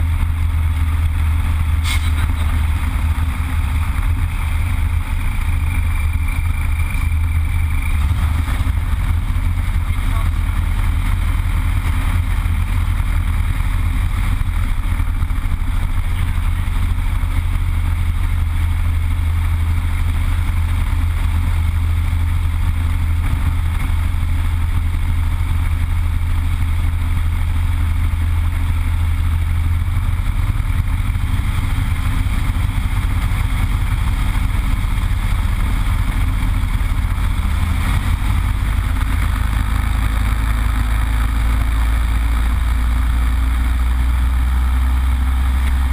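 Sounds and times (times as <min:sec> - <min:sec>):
radial aircraft engine running: 0:00.0 - 0:45.9.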